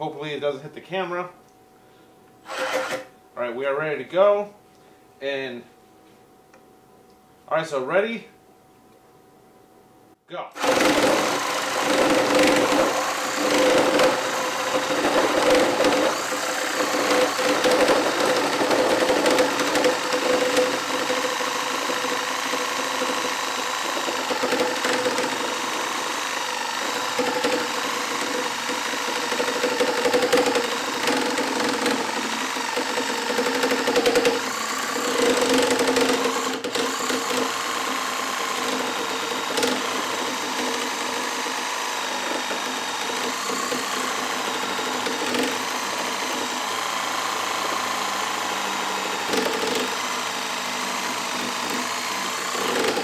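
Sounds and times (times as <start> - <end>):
reciprocating saw cutting wood: 2.4 - 3.1, 10.6 - 53.0.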